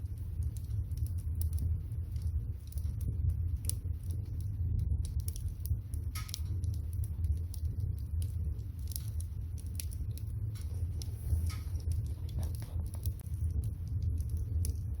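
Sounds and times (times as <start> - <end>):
firewood crackling: 0.0 - 15.0
water boiling: 0.0 - 15.0.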